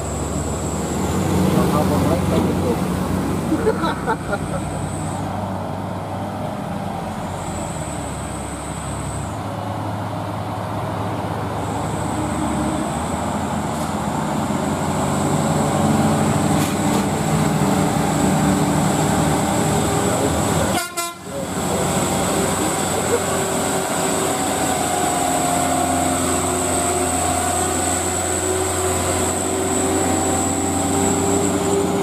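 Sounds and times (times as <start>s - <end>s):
diesel truck engine labouring: 0.0s - 32.0s.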